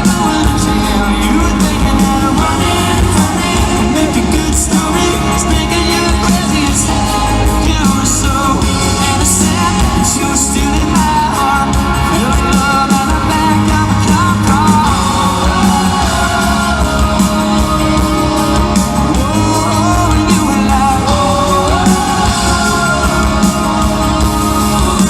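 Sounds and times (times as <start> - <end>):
drums: 0.0 - 25.0
live country band: 0.0 - 25.0
person singing: 0.0 - 25.0
sliding lead melody: 0.0 - 25.0.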